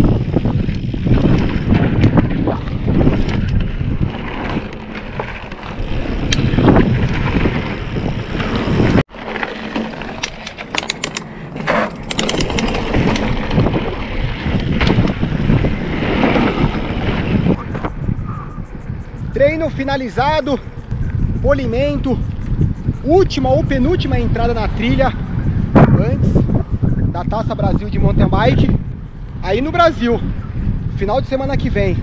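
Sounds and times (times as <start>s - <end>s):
wind buffeting microphone: 0.0s - 9.1s, 10.0s - 32.0s
bike clicking and rattling: 0.0s - 32.0s
bike tyres rolling: 0.0s - 32.0s.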